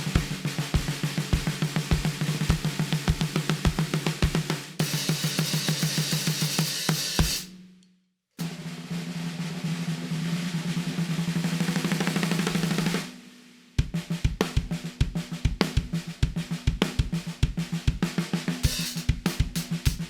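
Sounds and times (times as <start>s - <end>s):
snare drum rolls: 0.0s - 7.6s, 8.4s - 20.0s.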